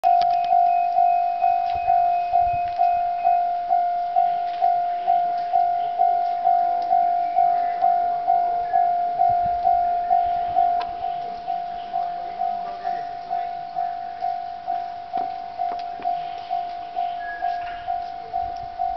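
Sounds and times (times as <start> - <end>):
level crossing warning bell: 0.0 - 18.9.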